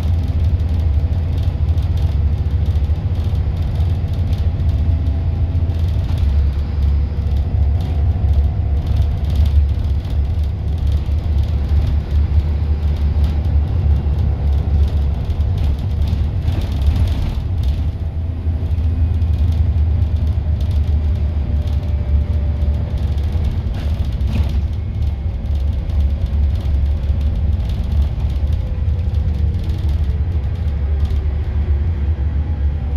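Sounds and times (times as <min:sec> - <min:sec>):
bus engine and road rumble: 0:00.0 - 0:32.9.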